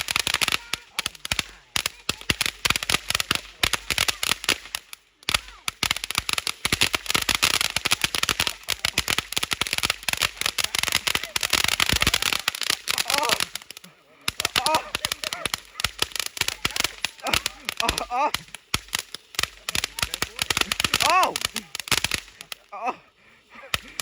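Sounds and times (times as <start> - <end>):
firecrackers popping: 0.0 - 24.0.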